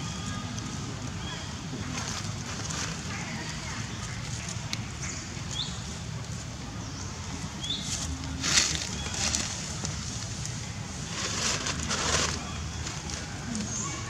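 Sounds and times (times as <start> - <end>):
rustling in dry leaves: 0.0 - 14.0.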